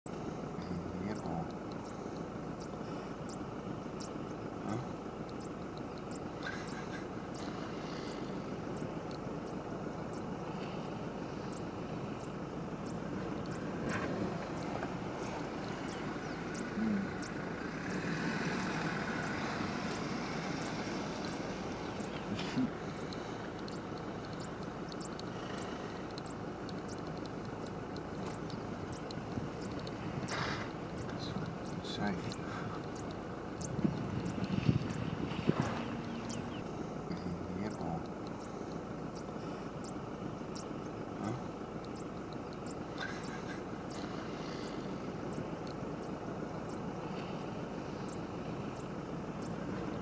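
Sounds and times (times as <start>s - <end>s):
small birds chirping: 0.1s - 50.0s
steady low rumble: 0.1s - 50.0s.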